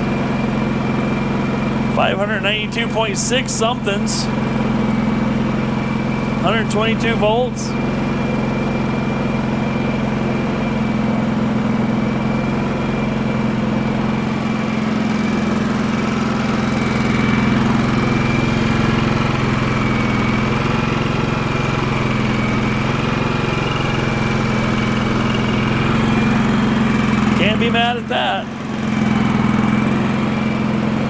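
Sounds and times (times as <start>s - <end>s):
generator engine running: 0.0s - 31.0s.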